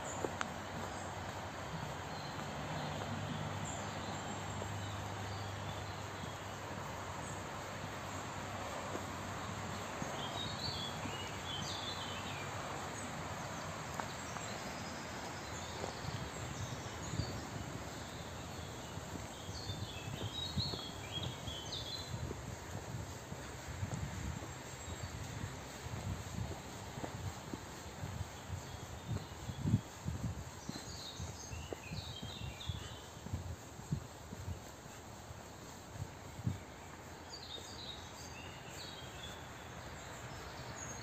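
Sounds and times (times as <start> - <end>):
songbirds chirping: 0.0 - 41.0
steady outdoor hiss: 0.0 - 41.0.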